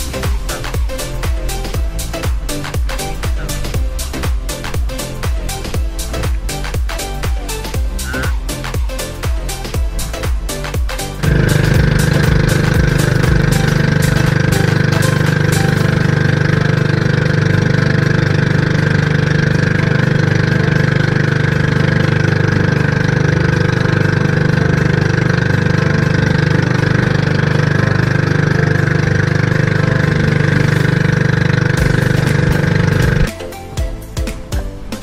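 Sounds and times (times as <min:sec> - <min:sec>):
small boat engine running: 0:00.0 - 0:33.8.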